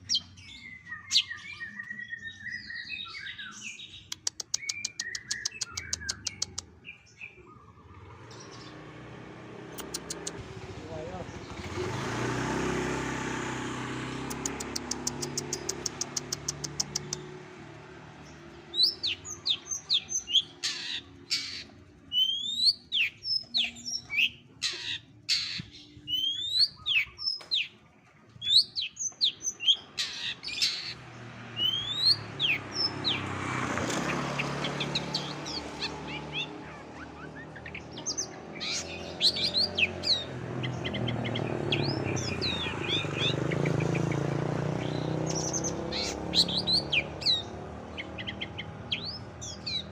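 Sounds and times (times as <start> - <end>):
bird singing trills and chirps: 0.0 - 49.9.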